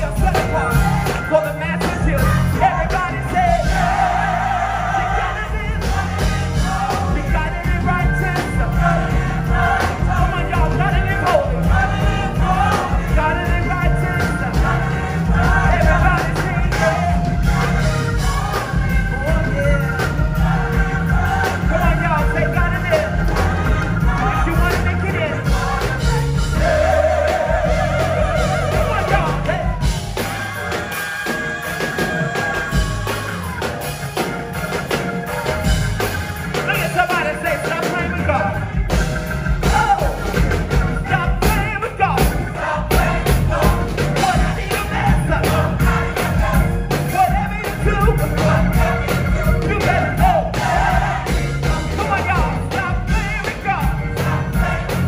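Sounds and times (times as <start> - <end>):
band with drums and bass: 0.0 - 55.0
gospel choir singing: 0.0 - 55.0.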